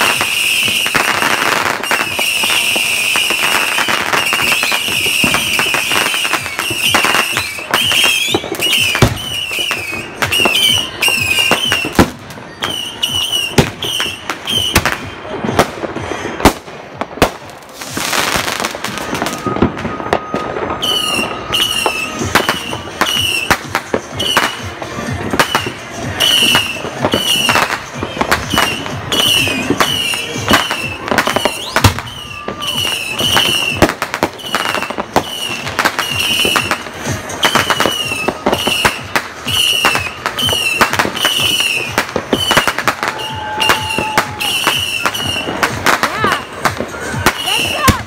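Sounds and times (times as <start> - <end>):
fireworks bangs and pops: 0.0 - 48.0.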